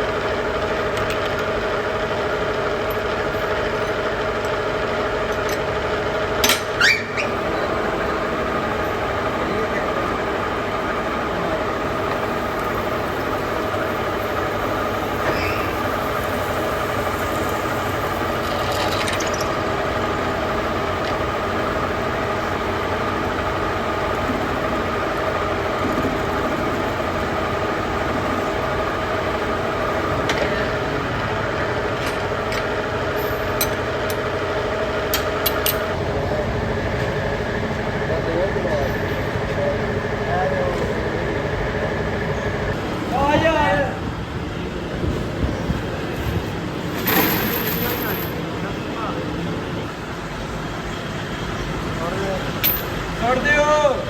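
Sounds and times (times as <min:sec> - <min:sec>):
factory machinery drone: 0:00.0 - 0:54.0.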